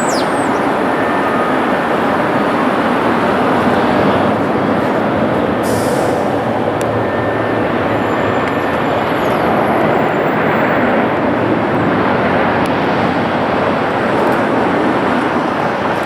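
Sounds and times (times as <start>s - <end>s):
jet airliner engines rushing: 0.0s - 16.0s.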